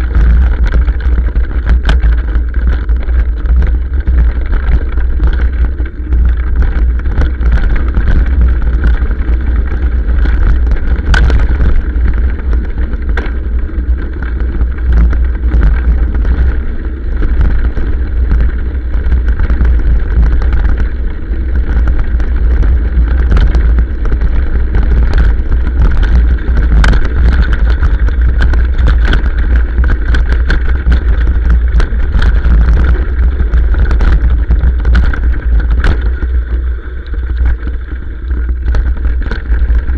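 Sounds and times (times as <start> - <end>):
knocks and rattles: 0.0 - 39.9
motorcycle engine rumble: 0.0 - 39.9
wind on microphone: 0.0 - 39.9.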